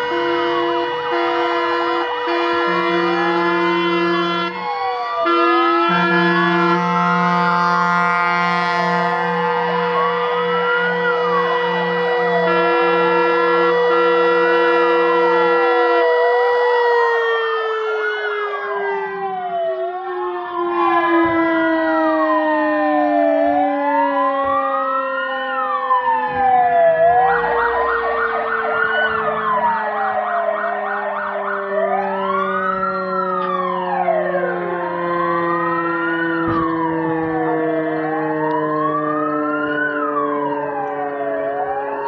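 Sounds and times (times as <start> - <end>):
fire engine sirens wailing: 0.0 - 42.0
steady siren tone sinking in pitch: 0.0 - 42.0.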